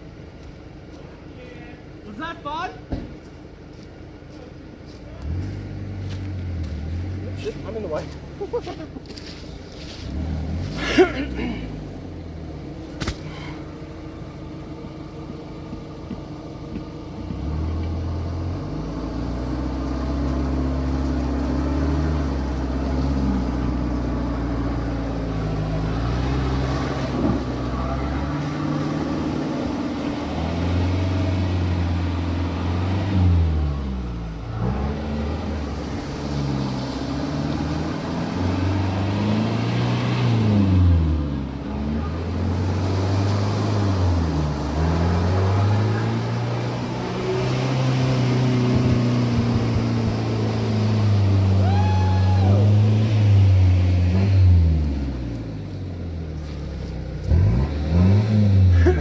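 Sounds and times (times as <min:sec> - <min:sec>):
off-road vehicle engine revving: 0:03.7 - 0:59.0.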